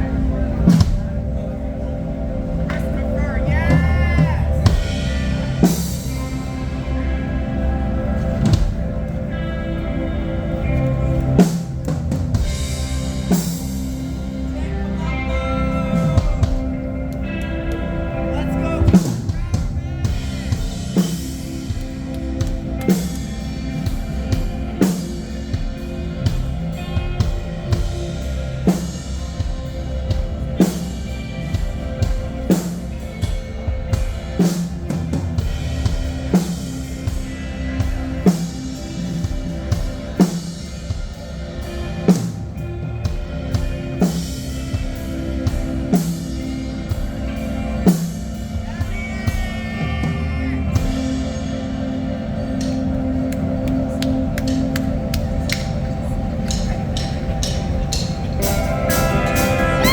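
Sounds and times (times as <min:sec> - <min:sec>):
rock band playing: 0:00.0 - 0:59.9
sustained guitar chords: 0:00.0 - 0:59.9.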